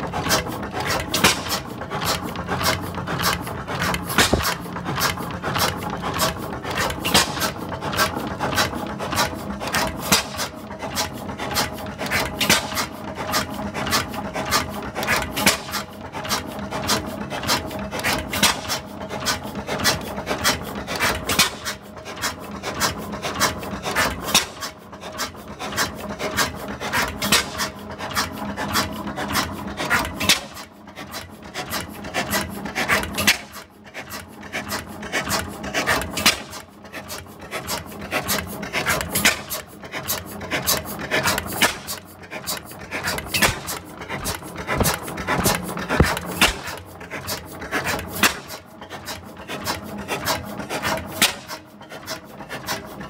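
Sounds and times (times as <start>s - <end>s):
oil engine clattering: 0.0s - 53.0s.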